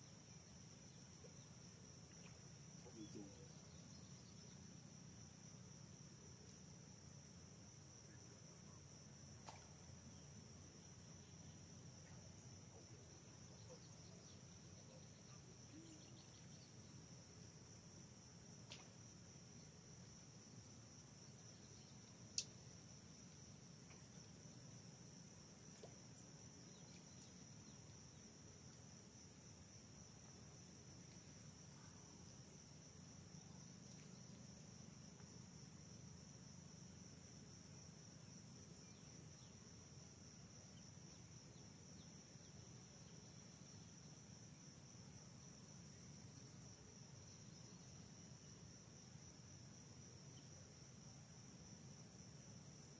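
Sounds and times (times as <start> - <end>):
high-pitched insect chorus trilling: 0.0 - 6.1, 10.0 - 52.9.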